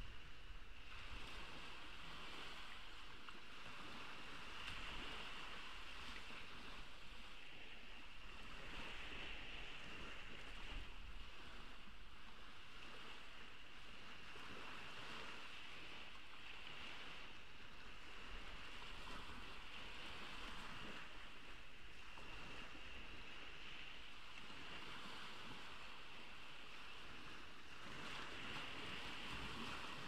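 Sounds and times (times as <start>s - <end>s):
ocean waves washing onto beach: 0.0s - 30.0s.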